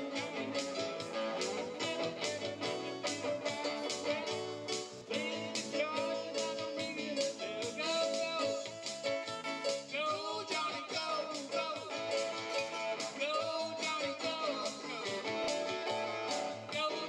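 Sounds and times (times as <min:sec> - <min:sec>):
band playing steady beat: 0:00.0 - 0:17.0
electric guitars through amplifiers: 0:00.0 - 0:17.0.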